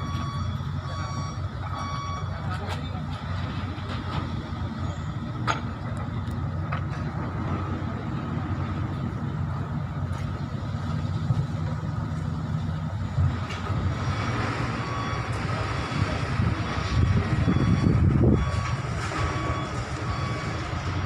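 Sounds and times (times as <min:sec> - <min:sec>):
heavy vehicle engine rumbling: 0:00.0 - 0:21.0.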